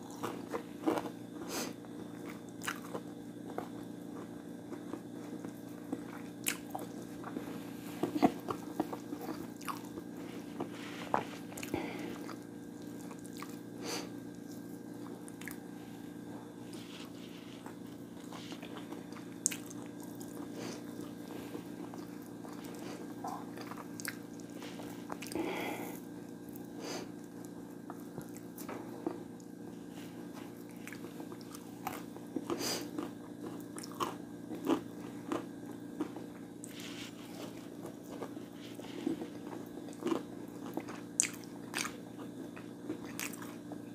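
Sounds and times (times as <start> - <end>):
chewing and biting: 0.0 - 13.7, 16.7 - 25.5, 27.4 - 43.8.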